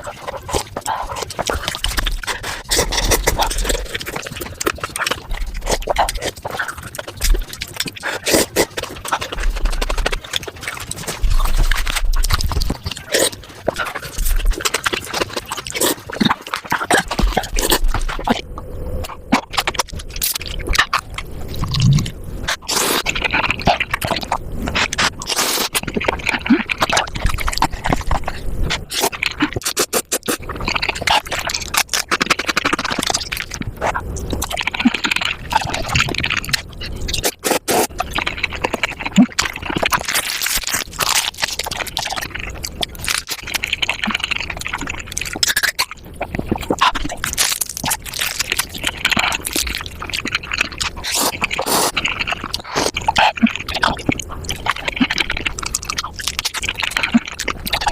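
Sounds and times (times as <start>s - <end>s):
sped-up eating sounds: 0.0s - 57.9s.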